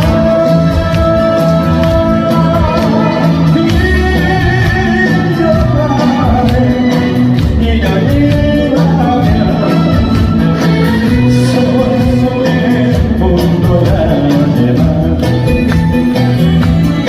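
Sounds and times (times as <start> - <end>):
trot music with steady beat: 0.0 - 17.0.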